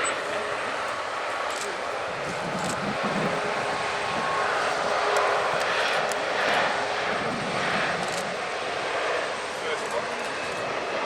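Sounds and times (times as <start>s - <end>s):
airliner engines rushing: 0.0s - 11.0s
faint engine whine: 0.0s - 11.0s.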